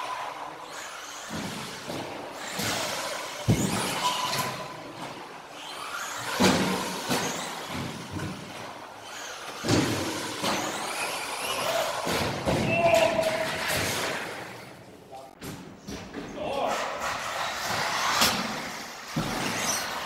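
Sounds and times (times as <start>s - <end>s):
toy car motors rushing: 0.0s - 14.8s, 16.7s - 20.0s.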